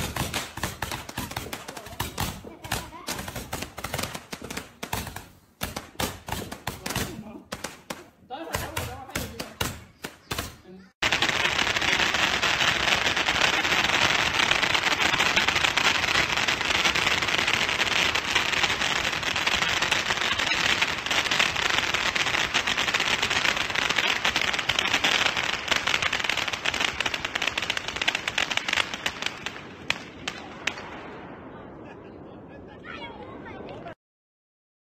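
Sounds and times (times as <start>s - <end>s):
fireworks crackling and popping: 0.0s - 34.0s.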